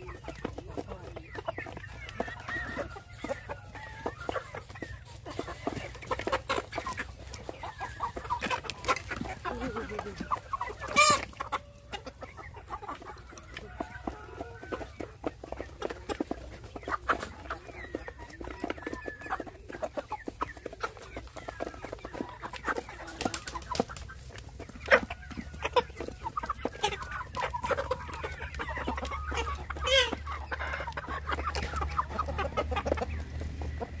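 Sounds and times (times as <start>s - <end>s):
chickens clucking: 0.0s - 34.0s
chicken squawk: 0.1s - 34.0s.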